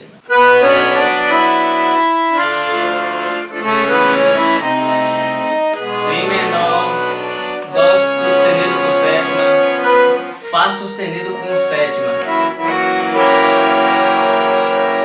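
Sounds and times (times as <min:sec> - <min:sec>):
accordion bass chords: 0:00.0 - 0:15.0.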